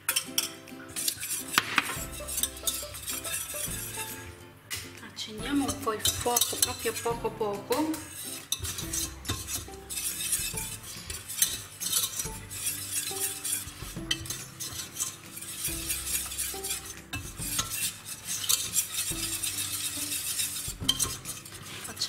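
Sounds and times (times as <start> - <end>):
whisk scraping metal saucepan: 0.0 - 4.4, 5.4 - 22.0.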